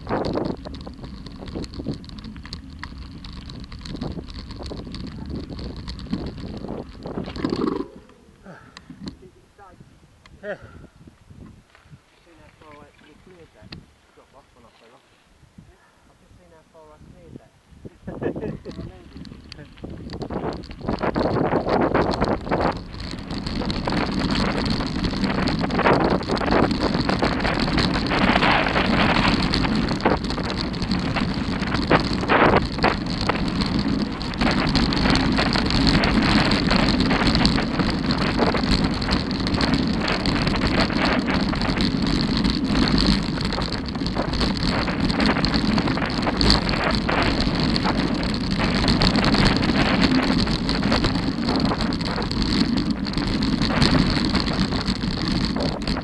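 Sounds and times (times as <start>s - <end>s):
bike knocks and rattles: 0.0s - 9.2s, 18.4s - 56.0s
bike tyres rumbling on gravel: 0.0s - 9.8s, 18.0s - 56.0s
wind on microphone: 0.0s - 56.0s.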